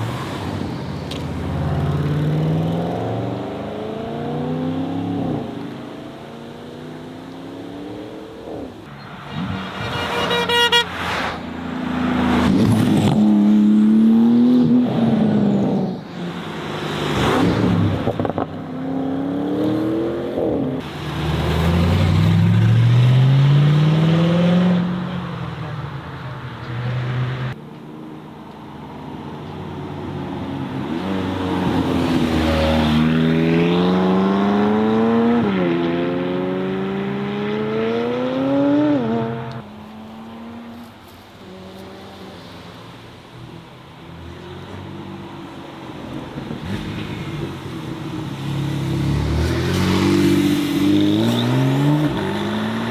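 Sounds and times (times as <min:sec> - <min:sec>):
cars accelerating hard: 0:00.0 - 0:25.3, 0:30.1 - 0:40.8, 0:46.0 - 0:52.9.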